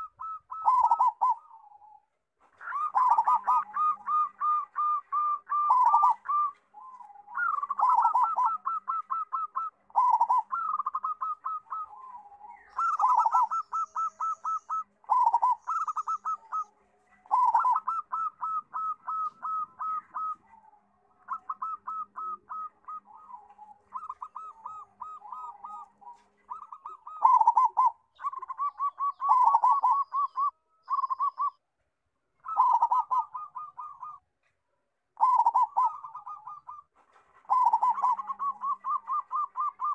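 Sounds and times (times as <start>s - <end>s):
dove cooing: 0.0s - 31.6s, 32.4s - 34.5s, 35.2s - 39.9s.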